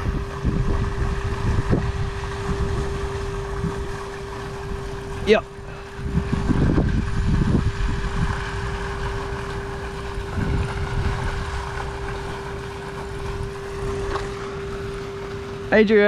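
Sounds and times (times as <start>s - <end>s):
wind noise on microphone: 0.0s - 14.4s
steady hum: 0.0s - 16.0s.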